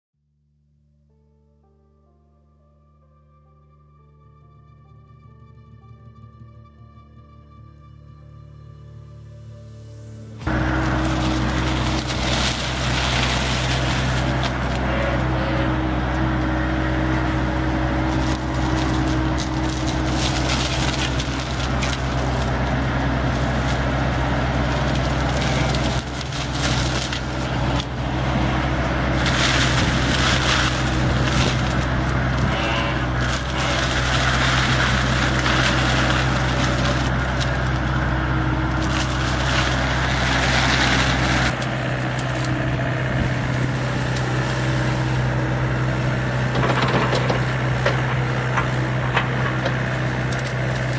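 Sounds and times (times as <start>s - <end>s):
diesel engine running: 8.3s - 50.9s
mulcher shredding brush: 9.4s - 50.9s.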